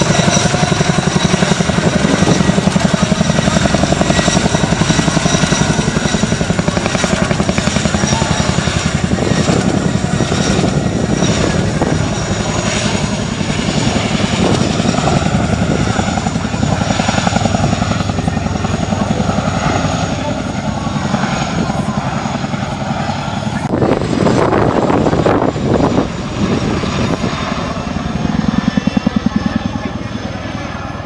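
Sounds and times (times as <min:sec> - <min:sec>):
helicopter high whine: 0:00.0 - 0:31.0
helicopter rotor beating: 0:00.0 - 0:31.0.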